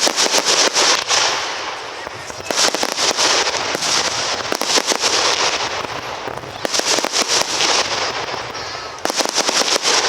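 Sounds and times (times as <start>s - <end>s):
fireworks crackling pops: 0.0s - 10.0s.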